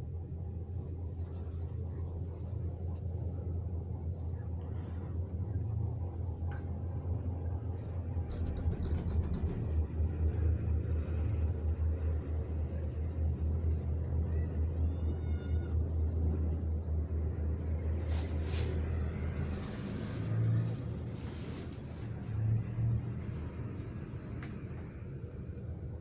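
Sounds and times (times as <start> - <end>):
cable car cabin rumble: 0.0 - 26.0.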